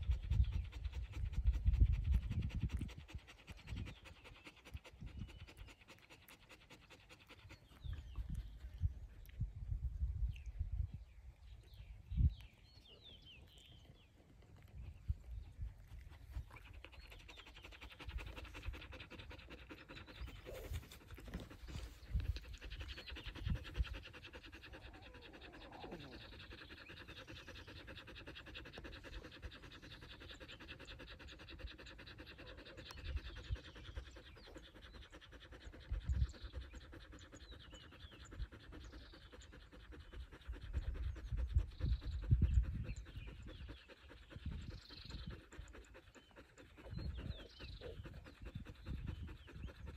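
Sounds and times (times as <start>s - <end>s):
dog panting: 0.0s - 9.4s, 13.1s - 49.9s.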